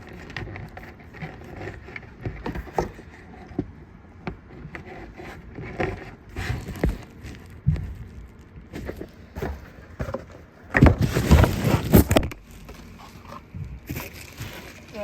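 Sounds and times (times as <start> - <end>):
cords scraping and rubbing: 0.0 - 15.0.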